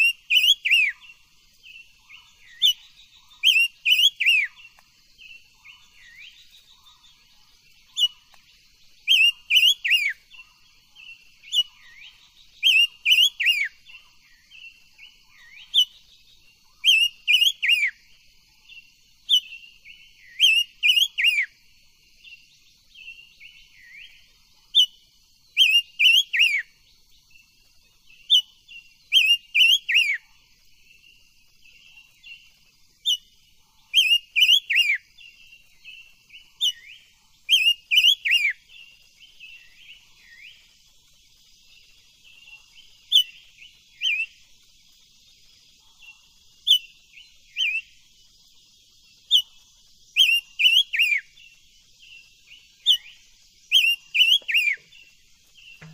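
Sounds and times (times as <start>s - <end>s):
bird singing whistled notes: 0.0s - 55.9s
faint steady high hiss: 0.0s - 55.9s.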